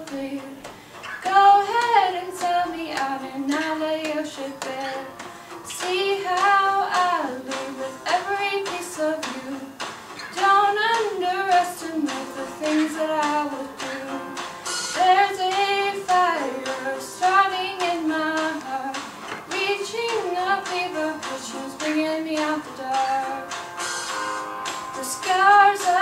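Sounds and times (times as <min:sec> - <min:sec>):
woman singing unaccompanied: 0:00.0 - 0:23.6, 0:25.0 - 0:26.0.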